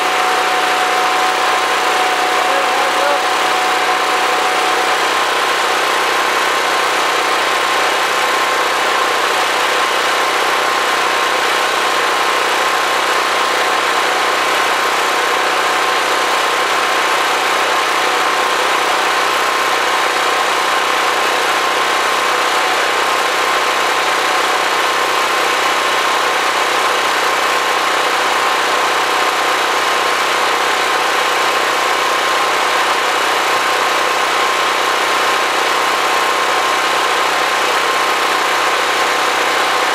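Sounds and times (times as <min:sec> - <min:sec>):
generator engine droning: 0:00.0 - 0:39.9.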